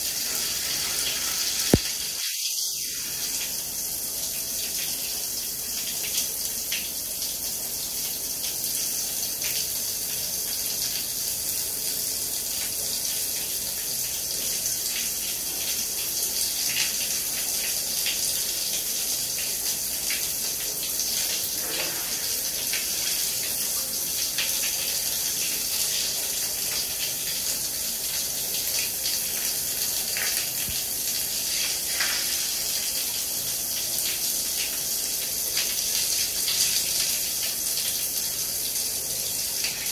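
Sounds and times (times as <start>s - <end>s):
shower spray on tiles: 0.0s - 39.9s.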